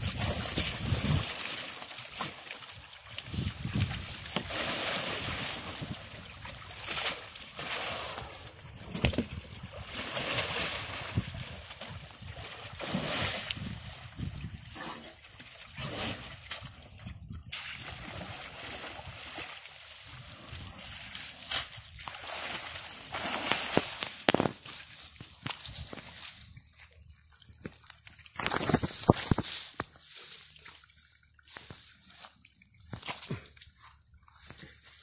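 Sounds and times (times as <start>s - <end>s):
water and mud sloshing: 0.0s - 35.0s.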